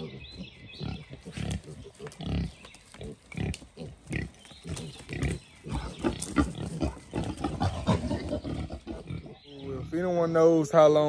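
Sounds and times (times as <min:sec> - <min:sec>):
wild boar grunting: 0:00.0 - 0:10.1.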